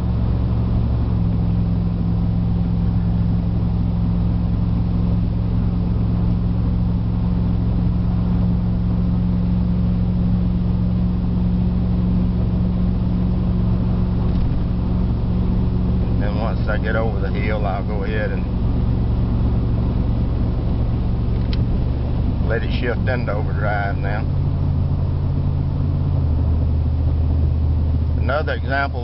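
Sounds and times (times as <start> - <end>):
road noise: 0.0 - 29.0
truck engine droning: 0.0 - 29.0.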